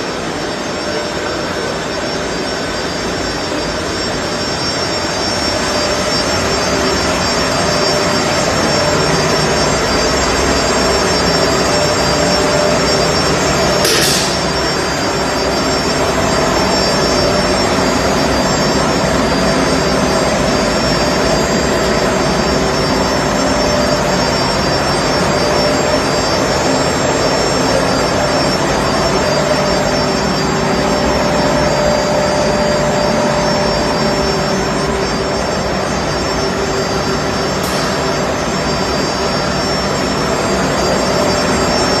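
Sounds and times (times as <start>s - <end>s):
machine running loudly: 0.0s - 42.0s
steady machine whine: 0.0s - 42.0s.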